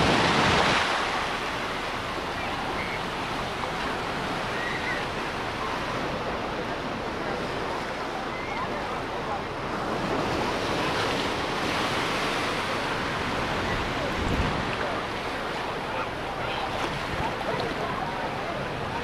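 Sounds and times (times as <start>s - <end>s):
ocean waves washing on beach: 0.0s - 19.0s.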